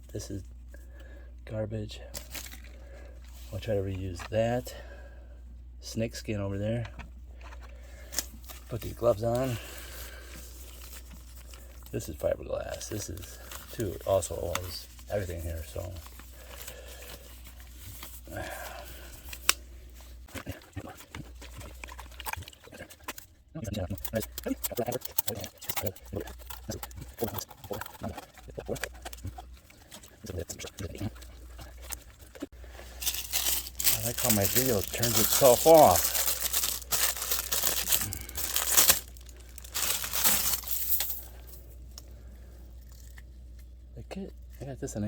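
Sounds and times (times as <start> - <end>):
rustling and crinkling packing: 2.1 - 4.6, 6.7 - 23.4, 24.0 - 42.1.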